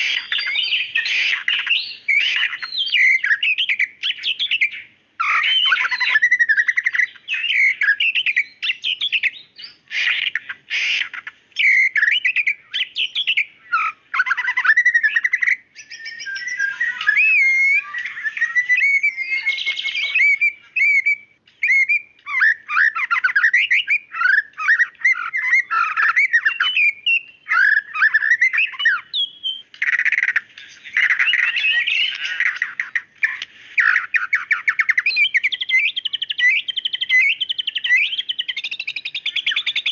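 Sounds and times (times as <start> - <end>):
songbird singing whistles: 0.0 - 39.9.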